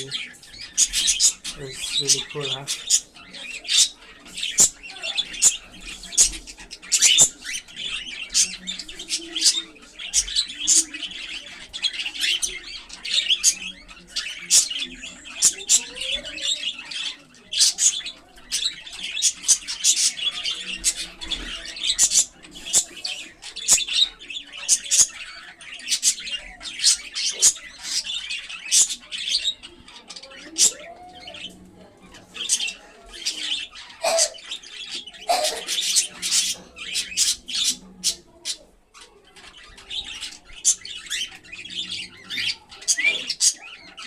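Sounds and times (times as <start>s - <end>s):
cockatiels chirping: 0.0s - 44.0s.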